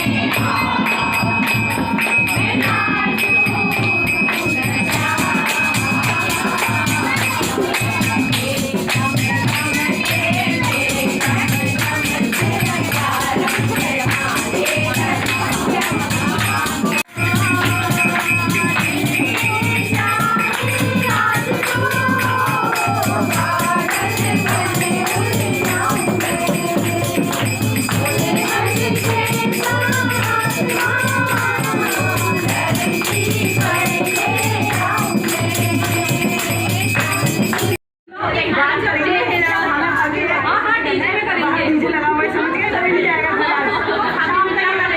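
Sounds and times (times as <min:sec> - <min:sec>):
steady drum beat: 0:00.0 - 0:37.8
tambourine jingles: 0:00.0 - 0:37.8
group singing: 0:00.0 - 0:41.7.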